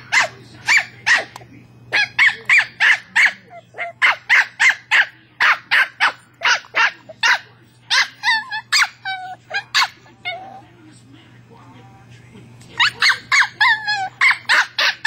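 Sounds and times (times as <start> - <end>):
dog yapping: 0.0 - 10.6, 12.8 - 15.0.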